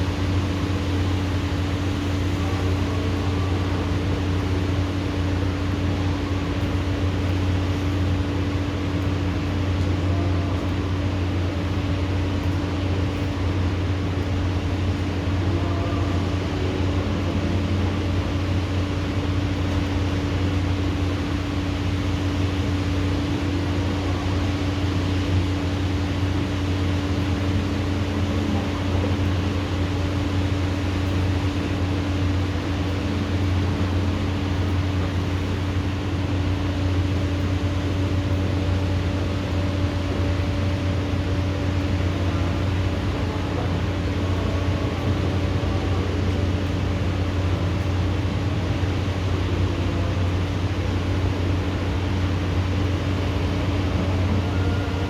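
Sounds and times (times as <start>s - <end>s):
constant low hum: 0.0s - 55.0s
heavy rain rushing: 0.0s - 55.0s.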